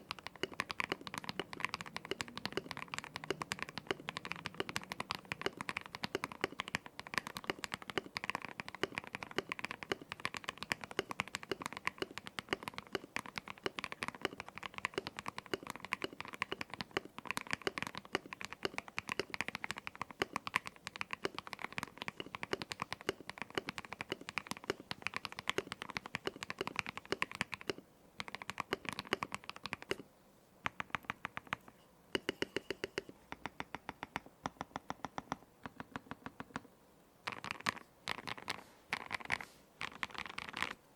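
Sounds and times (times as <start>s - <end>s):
typing on mechanical keyboard: 0.0s - 30.0s, 30.6s - 36.6s, 37.2s - 40.8s.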